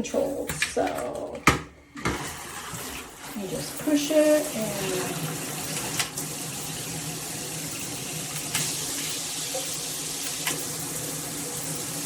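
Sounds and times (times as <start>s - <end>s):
water spraying from shower head: 2.2s - 12.0s.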